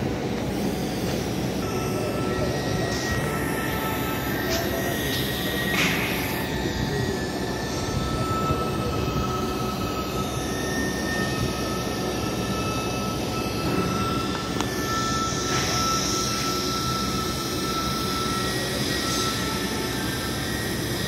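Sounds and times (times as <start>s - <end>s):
high whine: 0.0s - 21.0s
welding arc hissing: 0.0s - 21.0s.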